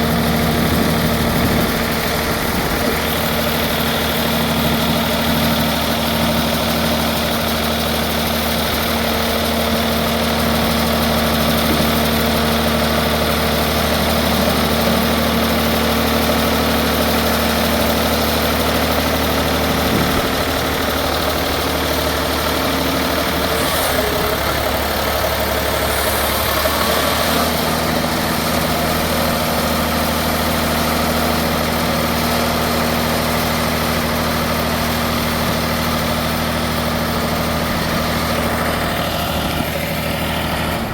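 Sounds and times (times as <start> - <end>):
baler machinery humming: 0.0 - 40.9.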